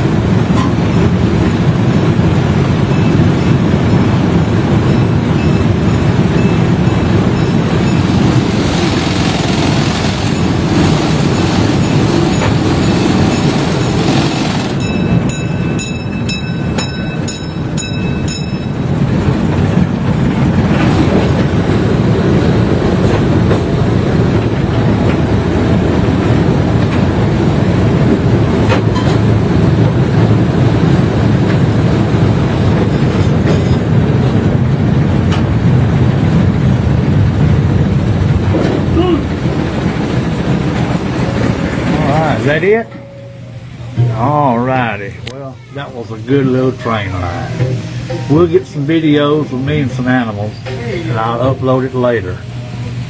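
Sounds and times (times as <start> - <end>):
small train rumbling on rails: 0.0 - 53.0.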